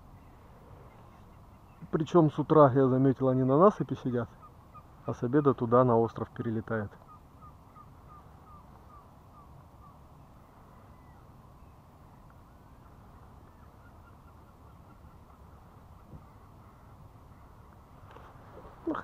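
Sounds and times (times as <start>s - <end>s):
falling bird calls: 0.0s - 19.0s.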